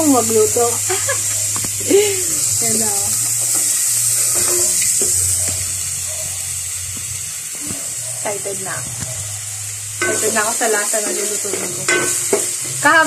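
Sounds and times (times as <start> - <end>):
meat and onion sizzling: 0.0 - 13.0.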